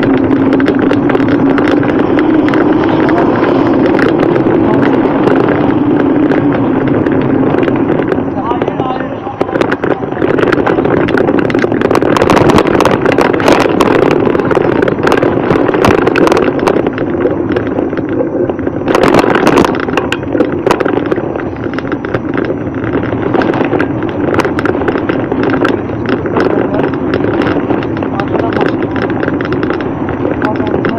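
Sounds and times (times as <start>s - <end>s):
bicycle clicks and rattles: 0.0s - 30.9s
wind on microphone: 0.0s - 30.9s.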